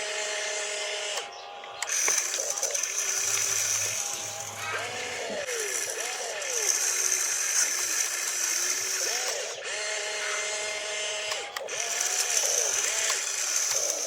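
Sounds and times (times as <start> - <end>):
small electric motors whining: 0.0 - 14.0.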